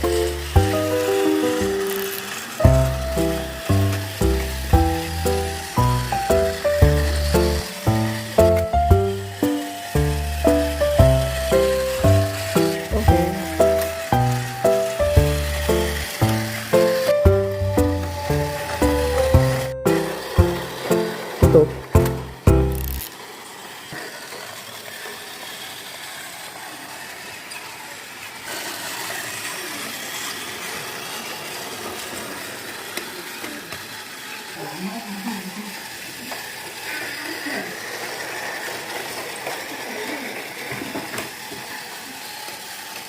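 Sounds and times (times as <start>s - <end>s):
toy train motor whirring: 0.0s - 43.0s.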